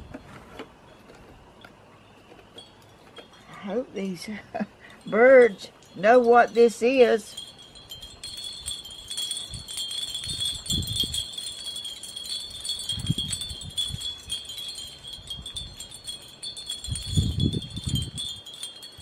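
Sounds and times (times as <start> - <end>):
wind chimes ringing: 0.8 - 19.0.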